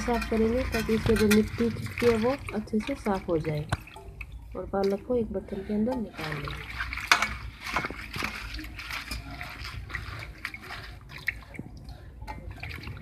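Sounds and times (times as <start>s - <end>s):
hands washing leaves in water: 0.0s - 13.0s
water splashing and sloshing: 0.0s - 13.0s.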